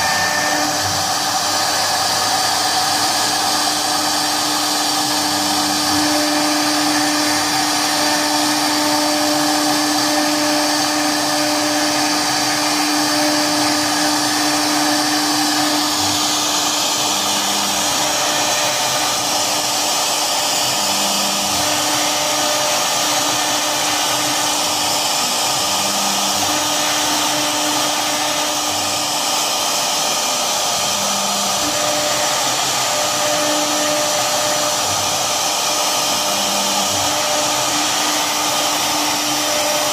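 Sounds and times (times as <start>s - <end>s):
hiss of bit cutting wood: 0.0s - 39.9s
router spindle whining: 0.0s - 39.9s.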